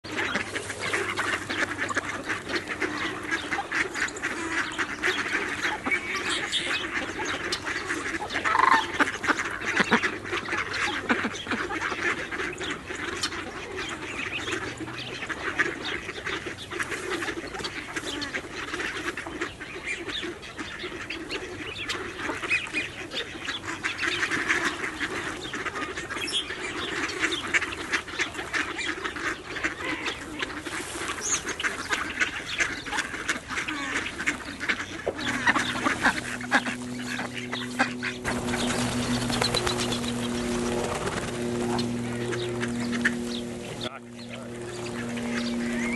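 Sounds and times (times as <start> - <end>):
flock of ducks quacking: 0.0 - 45.9.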